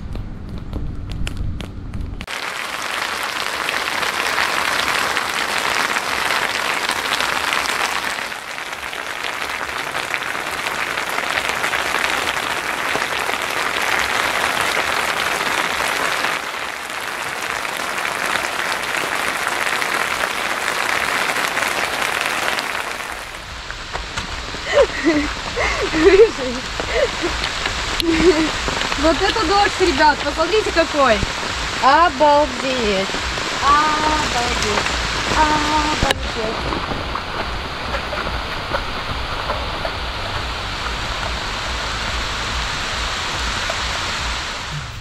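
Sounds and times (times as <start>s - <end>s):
heavy rain pouring: 2.2s - 45.0s.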